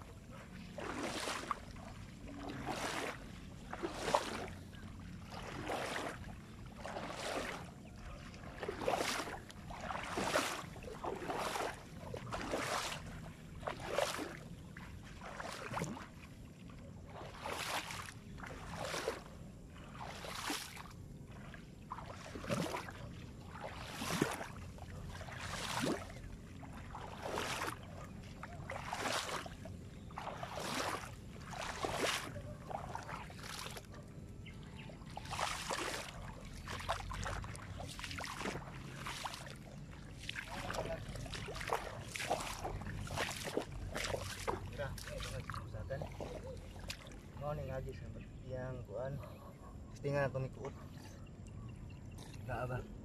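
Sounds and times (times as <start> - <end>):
footsteps splashing in shallow water: 0.0 - 53.0.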